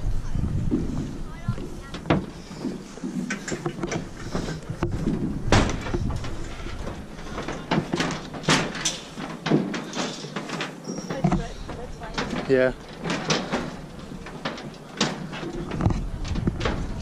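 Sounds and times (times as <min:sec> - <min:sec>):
footsteps on metal gangway: 0:00.4 - 0:17.0
footsteps on plastic pontoon: 0:00.6 - 0:17.0.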